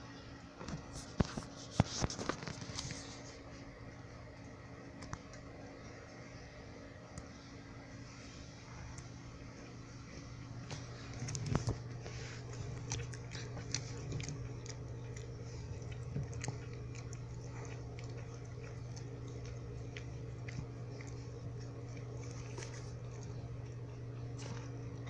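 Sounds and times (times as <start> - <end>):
steady low hum: 0.0 - 25.0
puppies chewing and gnawing: 0.6 - 25.0.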